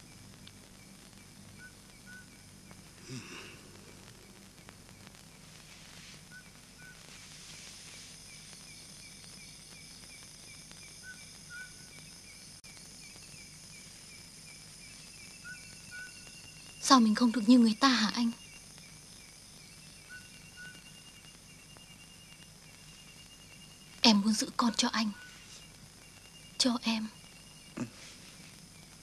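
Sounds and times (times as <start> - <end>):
insects chirping: 0.0 - 29.0
rustle: 0.0 - 29.0.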